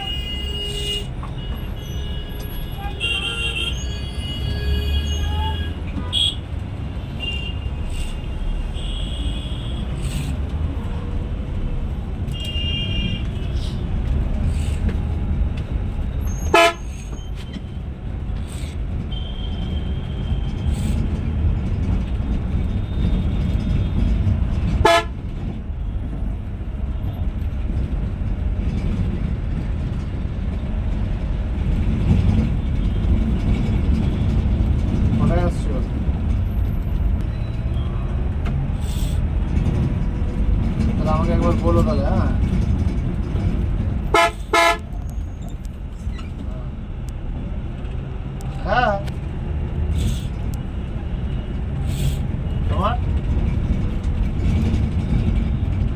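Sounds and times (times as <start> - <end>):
coach engine rumble: 0.0 - 55.9.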